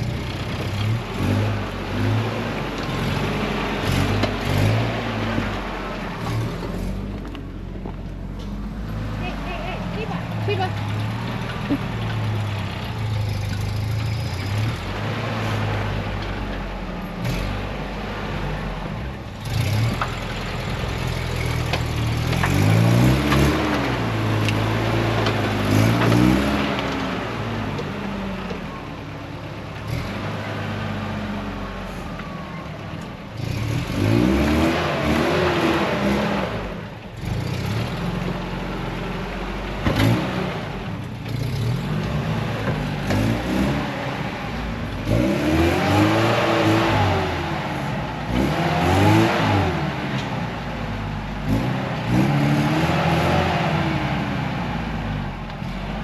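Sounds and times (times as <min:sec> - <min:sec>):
off-road engine revving under load: 0:00.0 - 0:07.3, 0:08.7 - 0:28.7, 0:29.8 - 0:32.4, 0:33.2 - 0:56.0.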